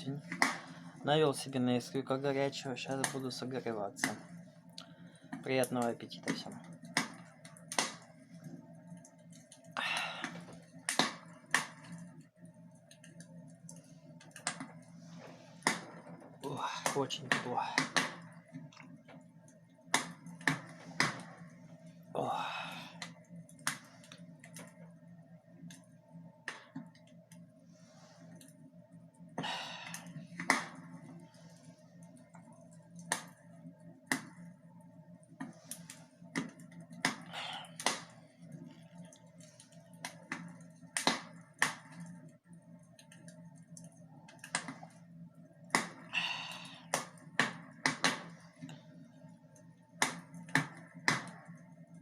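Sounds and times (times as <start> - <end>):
fire crackling in a fireplace: 0.0 - 52.0
steady low hum: 0.0 - 52.0.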